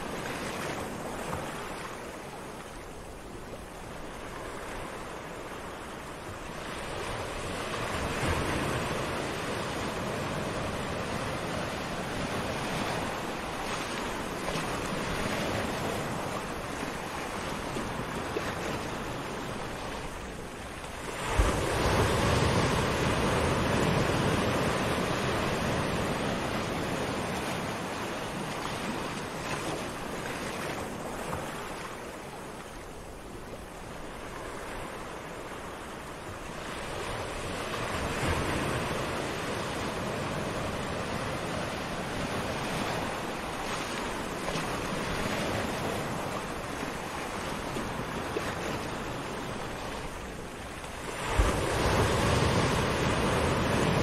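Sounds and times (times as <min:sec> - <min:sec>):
waves washing on sand: 0:00.0 - 0:54.0.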